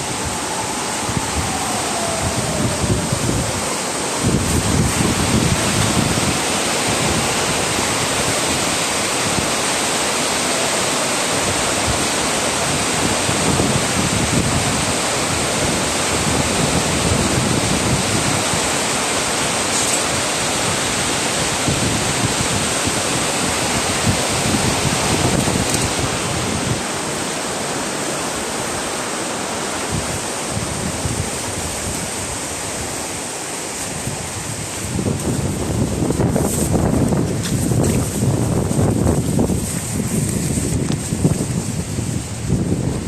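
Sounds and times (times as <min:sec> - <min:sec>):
river rushing: 0:00.0 - 0:43.0
strong wind buffeting microphone: 0:00.0 - 0:43.0.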